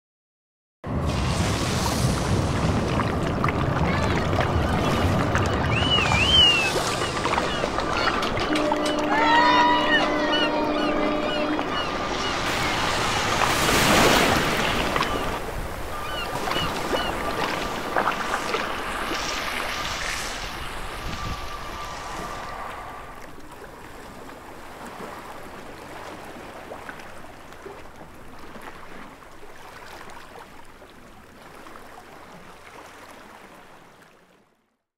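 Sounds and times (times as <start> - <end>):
ocean surf washing on beach: 0.9 - 30.7.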